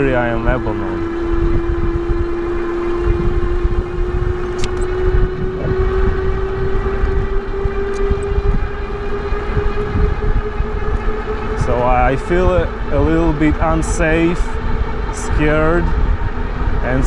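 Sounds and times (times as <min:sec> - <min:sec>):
electric bike motor whining: 0:00.0 - 0:17.0
wind rumble on microphone: 0:00.0 - 0:17.0.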